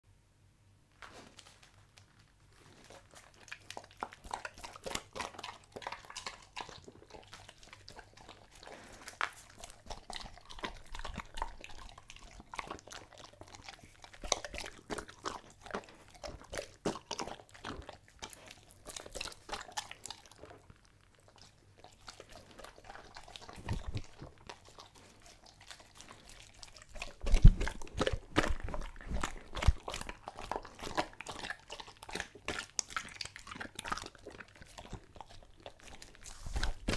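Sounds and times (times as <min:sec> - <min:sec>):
dog chewing meat: 0:02.6 - 0:36.9.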